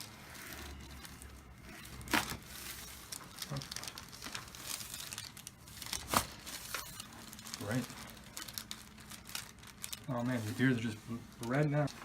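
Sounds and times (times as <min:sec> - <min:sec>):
crinkly rustling: 0:00.0 - 0:12.0.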